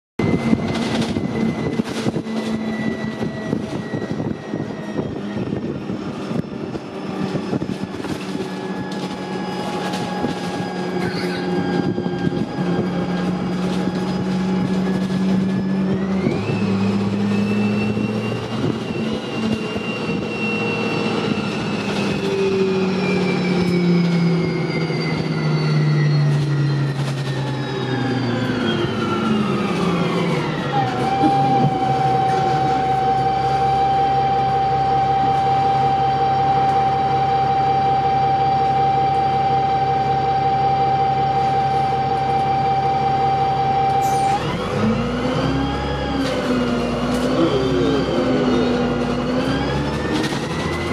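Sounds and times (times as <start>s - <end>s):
bus engine running: 0.2s - 50.9s
high whine: 0.2s - 50.9s.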